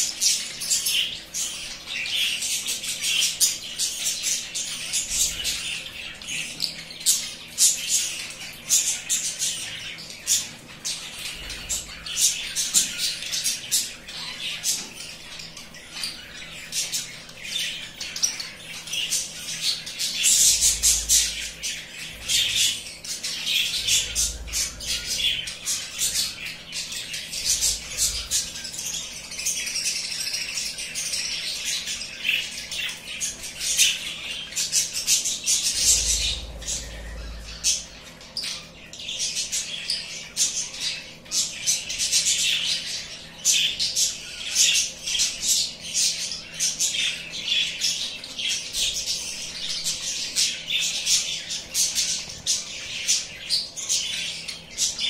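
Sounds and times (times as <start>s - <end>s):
birds chirping and squawking: 0.0s - 55.0s.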